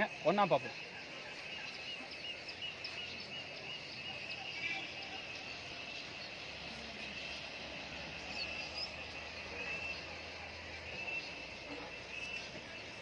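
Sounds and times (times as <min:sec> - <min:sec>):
bird-like chirps: 0:00.0 - 0:13.0
high insect drone: 0:00.0 - 0:13.0.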